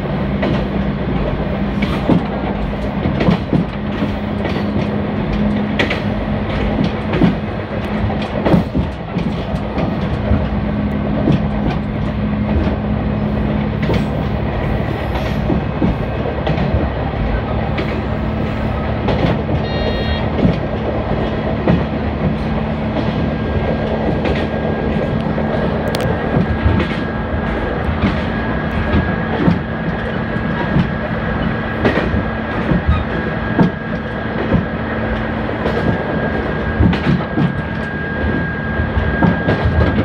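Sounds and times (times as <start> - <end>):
clacks over rail joints: 0.0 - 40.0
engine drone: 0.0 - 40.0
wheels rumbling: 0.0 - 40.0.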